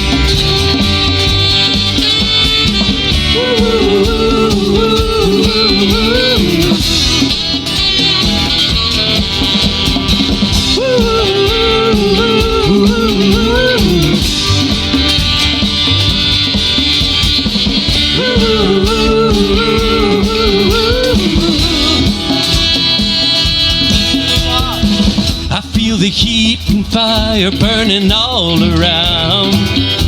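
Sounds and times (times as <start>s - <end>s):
bass: 0.0s - 30.0s
drums: 0.0s - 30.0s
lead guitar melody: 0.0s - 30.0s.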